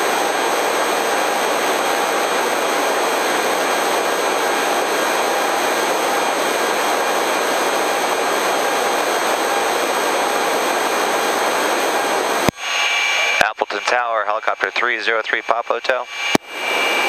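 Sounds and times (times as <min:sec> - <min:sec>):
helicopter in flight: 0:00.0 - 0:17.0.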